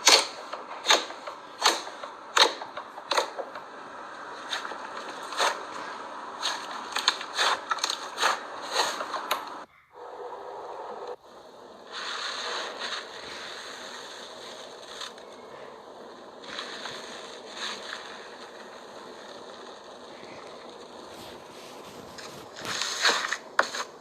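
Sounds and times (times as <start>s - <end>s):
slime scraping and rustling: 0.0s - 9.7s, 11.8s - 24.0s.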